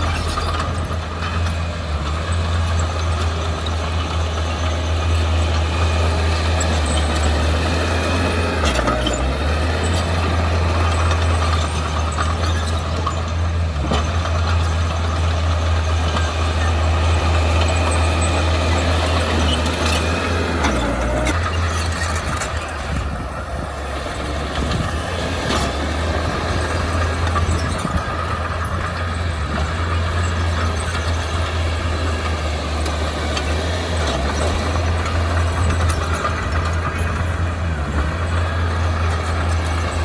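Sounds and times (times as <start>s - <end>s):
heavy diesel engine under load: 0.0s - 40.0s.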